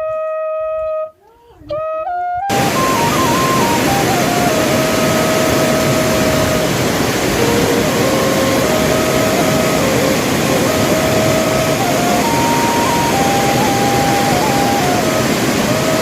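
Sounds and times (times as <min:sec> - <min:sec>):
slow flute melody: 0:00.0 - 0:16.0
loud rushing noise: 0:02.5 - 0:16.0.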